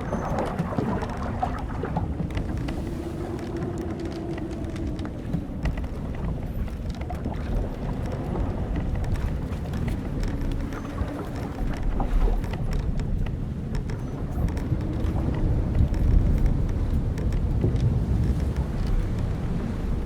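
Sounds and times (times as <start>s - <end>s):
wind and sea rushing: 0.0s - 20.0s
wooden ship creaking: 0.0s - 20.0s.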